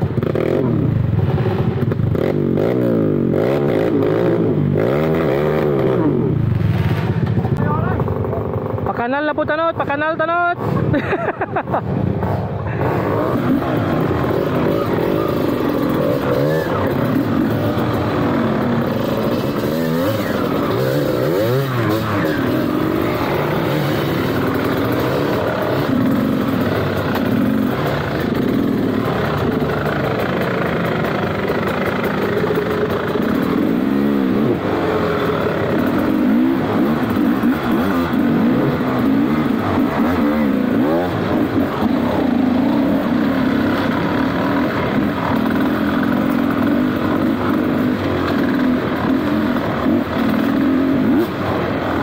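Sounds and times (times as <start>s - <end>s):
dirt bike engine revving: 0.0s - 9.0s, 12.1s - 52.0s.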